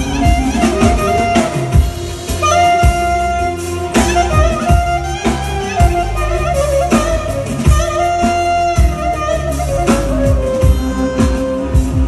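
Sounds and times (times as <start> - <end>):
clarinet melody: 0.0 - 12.0
keyboard backing: 0.0 - 12.0
thumping beat: 0.0 - 12.0.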